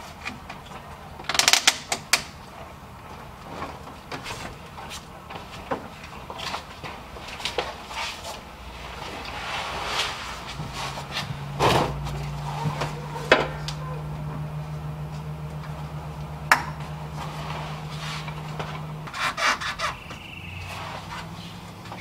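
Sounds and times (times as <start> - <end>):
steady low hum: 2.2 - 22.0
hand tools clinking and scraping: 3.2 - 22.0.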